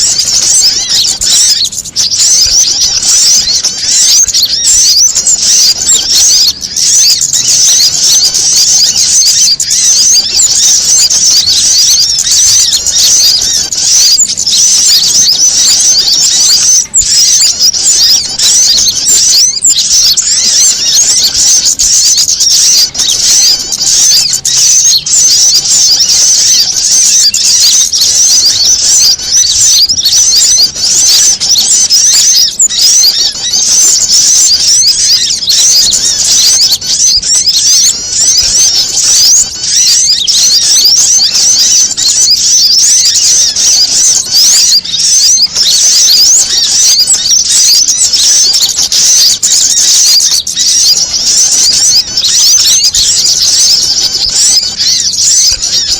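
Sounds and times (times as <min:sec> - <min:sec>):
many small birds chattering: 0:00.0 - 0:55.9.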